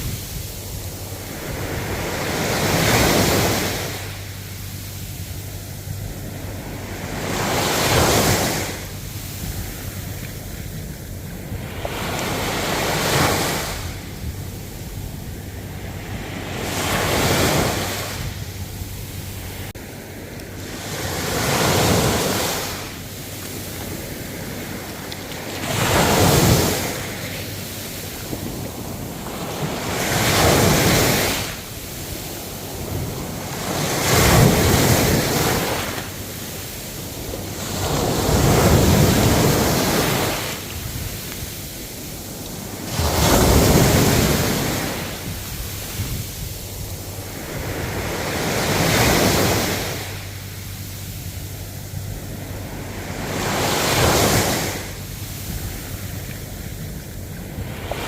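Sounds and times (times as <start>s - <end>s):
ocean waves washing in: 0.0s - 58.0s.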